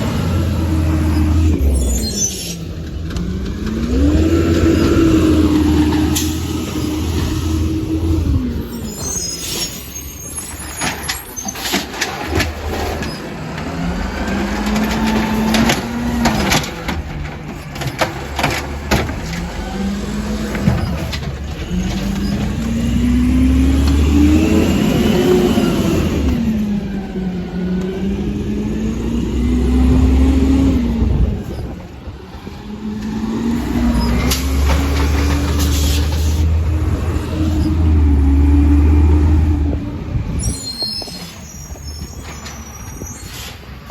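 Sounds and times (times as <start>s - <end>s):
truck engine revving: 0.0s - 11.0s, 11.7s - 40.5s.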